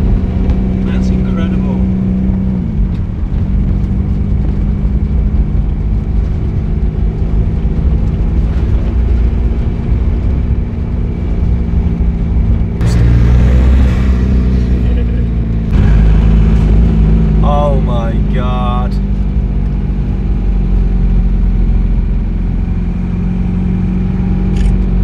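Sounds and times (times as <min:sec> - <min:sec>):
tyre and road rumble: 0:00.0 - 0:25.0
van engine droning: 0:00.0 - 0:25.0.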